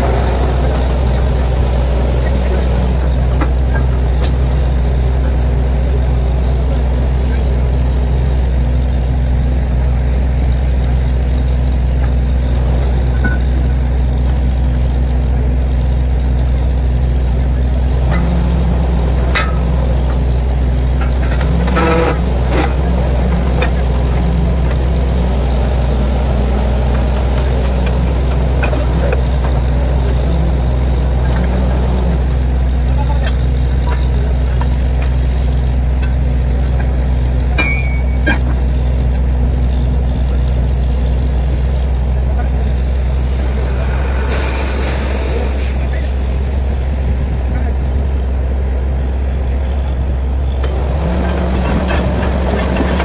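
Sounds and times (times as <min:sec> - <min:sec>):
diesel engine humming: 0:00.0 - 0:53.0.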